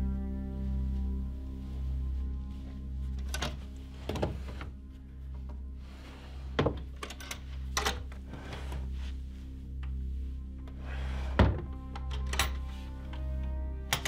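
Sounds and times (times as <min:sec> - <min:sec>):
droning film score: 0:00.0 - 0:14.0.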